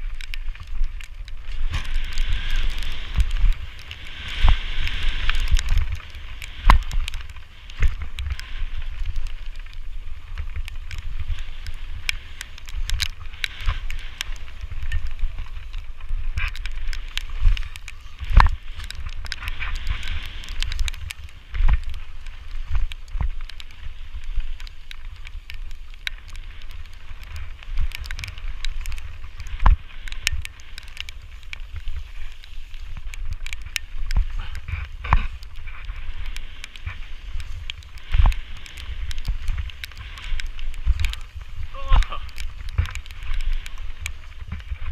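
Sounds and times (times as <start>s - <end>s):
bike rattling clicks and knocks: 0.0s - 44.9s
wind buffeting microphone: 0.0s - 44.9s.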